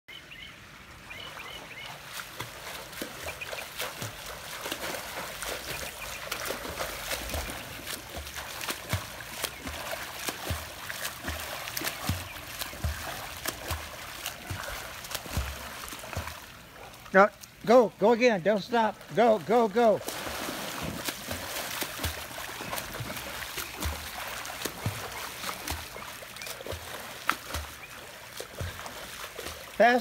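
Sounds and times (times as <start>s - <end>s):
swimmer splashing in pool: 1.2s - 30.0s.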